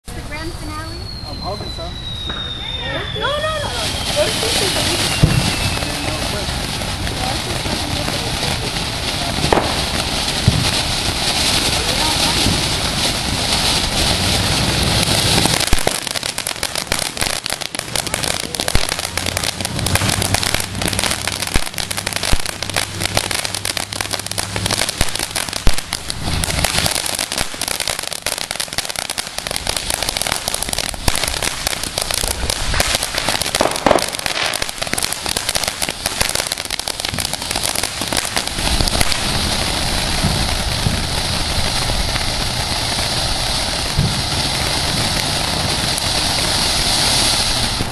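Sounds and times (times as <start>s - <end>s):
fireworks cake bangs and crackling: 0.0s - 47.9s.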